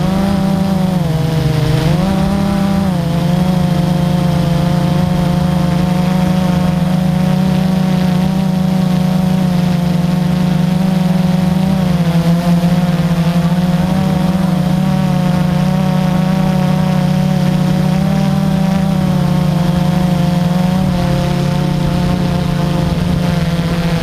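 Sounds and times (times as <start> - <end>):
drone propellers buzzing: 0.0 - 24.0.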